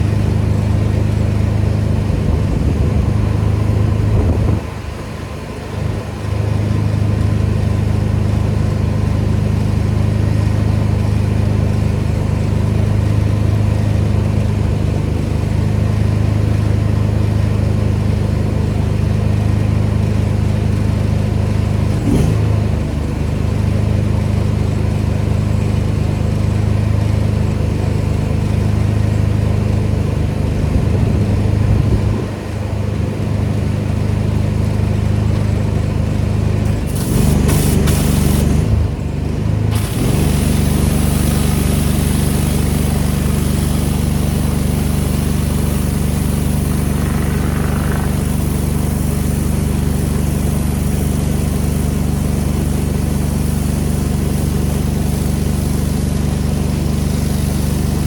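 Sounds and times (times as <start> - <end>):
pressure washer engine droning: 0.0 - 58.0.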